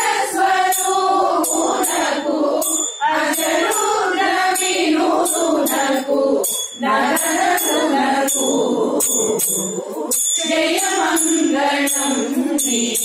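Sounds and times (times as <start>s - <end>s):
metallic jingle: 0.0s - 13.0s
women singing: 0.0s - 13.0s.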